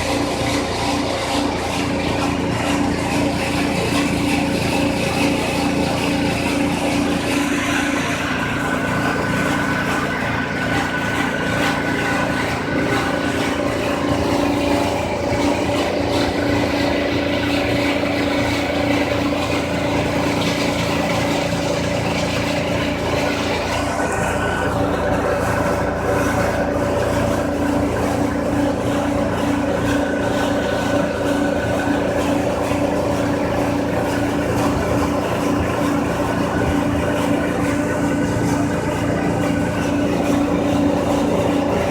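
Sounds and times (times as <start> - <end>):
motor hum with fixed tones: 0.0 - 41.9.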